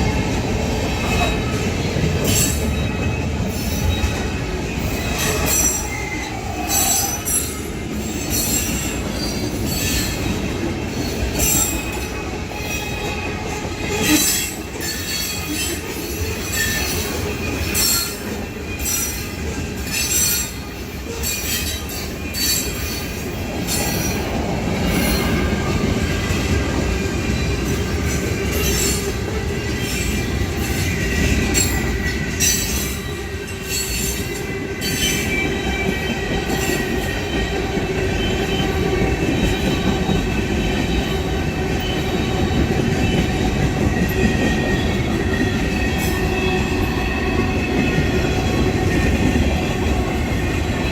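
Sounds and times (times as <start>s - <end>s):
faint squeal of wheels on rail: 0.0s - 50.9s
freight train rumbling past: 0.0s - 50.9s.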